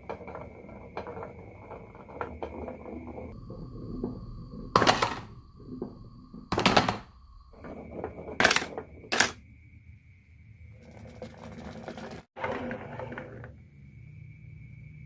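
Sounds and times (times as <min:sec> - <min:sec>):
marbles rolling down wooden run: 0:00.0 - 0:09.4, 0:10.8 - 0:13.7.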